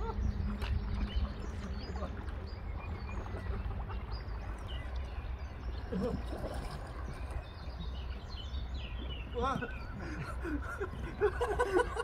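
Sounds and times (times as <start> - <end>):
birds chirping: 0.0 - 12.0
water sloshing around a canoe: 0.0 - 12.0.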